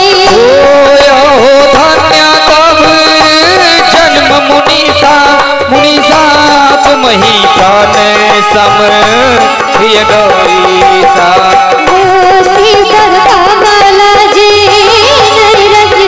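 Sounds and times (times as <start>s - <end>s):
hand drum steady rhythm: 0.0s - 16.0s
harmonium and keyboard melody: 0.0s - 16.0s.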